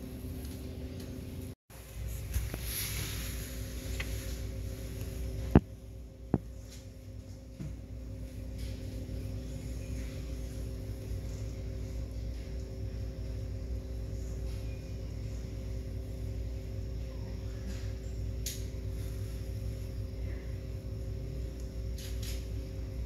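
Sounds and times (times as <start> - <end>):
low hum of constant tones: 0.0 - 23.0.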